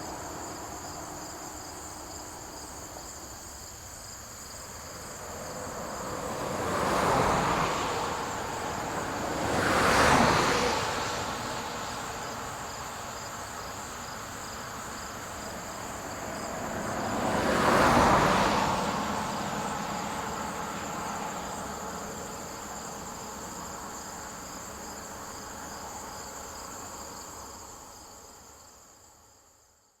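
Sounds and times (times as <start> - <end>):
vehicles passing by: 0.0 - 28.6
crickets chirring: 0.0 - 30.0.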